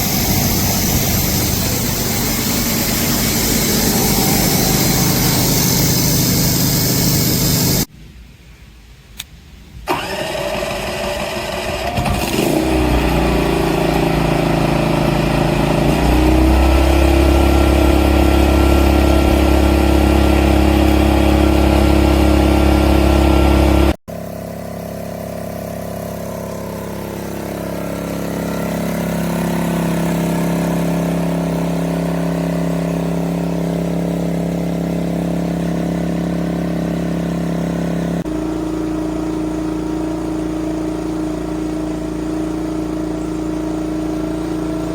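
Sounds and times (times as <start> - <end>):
generator engine running: 0.0 - 7.9, 9.9 - 44.9.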